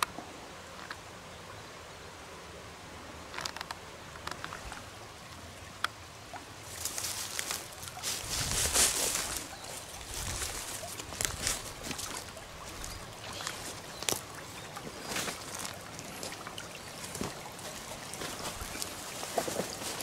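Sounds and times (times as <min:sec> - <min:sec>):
water splashing and trickling: 0:03.2 - 0:20.0.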